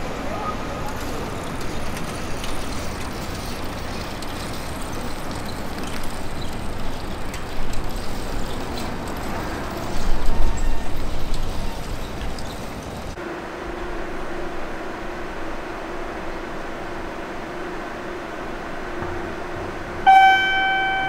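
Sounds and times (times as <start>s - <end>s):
low street rumble: 0.0s - 21.0s.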